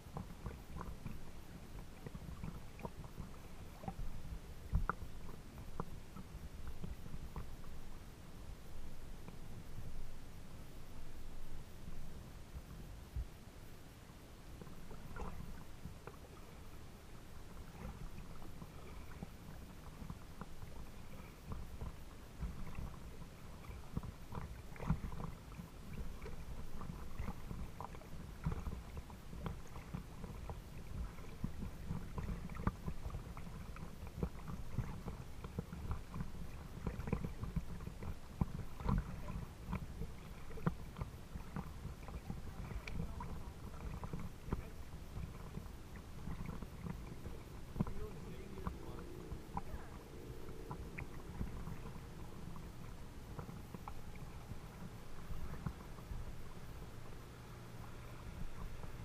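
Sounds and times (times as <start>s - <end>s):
water lapping against boat hull: 0.0s - 59.0s.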